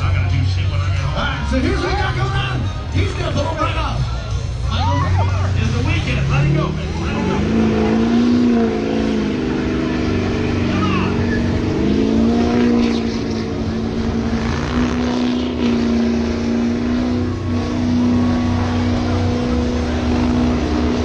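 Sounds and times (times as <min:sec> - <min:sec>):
pickup truck engine revving: 0:00.0 - 0:21.0.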